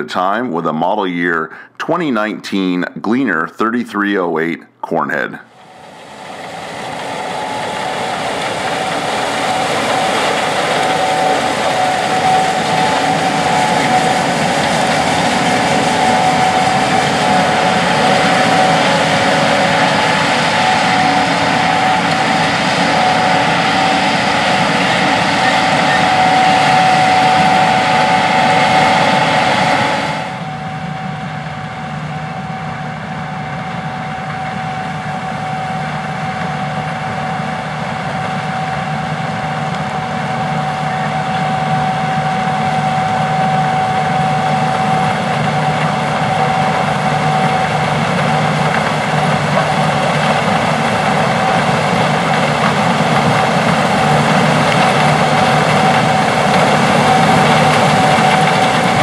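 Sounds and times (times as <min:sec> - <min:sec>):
combine harvester engine drone: 0:00.0 - 0:02.3, 0:04.9 - 0:59.0
machine whine: 0:05.4 - 0:59.0.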